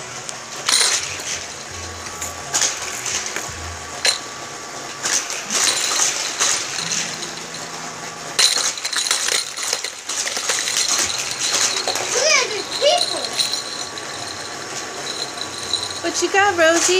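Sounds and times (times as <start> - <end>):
baby toys clinking and jingling: 0.7 - 3.4, 4.0 - 4.3, 5.4 - 7.7, 8.4 - 16.9.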